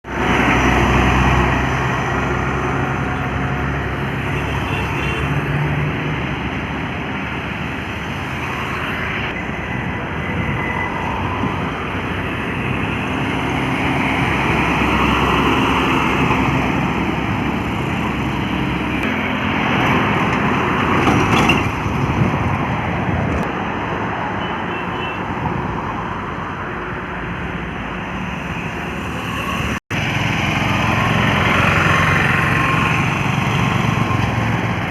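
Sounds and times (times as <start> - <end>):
highway traffic: 0.0 - 34.9.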